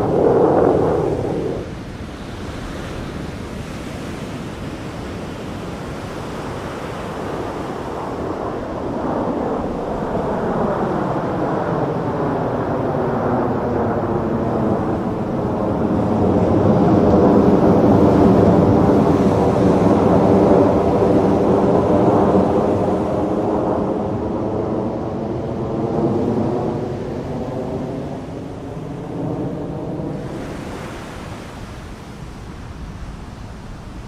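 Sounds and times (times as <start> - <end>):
fighter jet flying past: 0.0 - 34.0.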